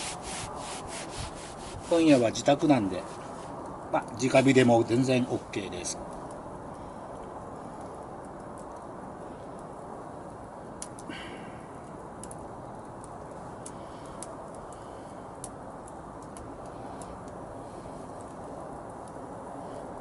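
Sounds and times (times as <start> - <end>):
campfire hissing: 0.0 - 20.0
fire crackles and pops: 0.0 - 20.0.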